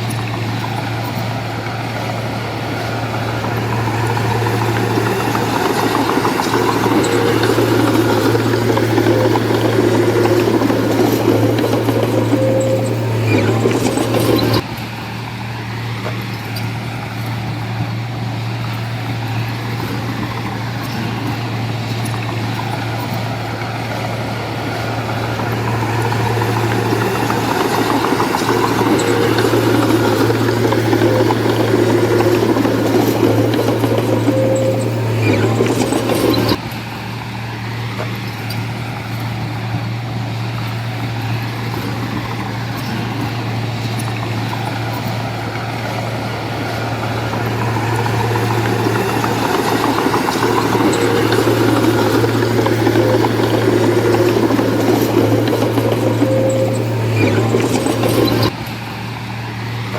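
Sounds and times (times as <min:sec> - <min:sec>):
diesel engine running: 0:00.0 - 0:59.9
heavy machinery working noise: 0:00.0 - 0:59.9.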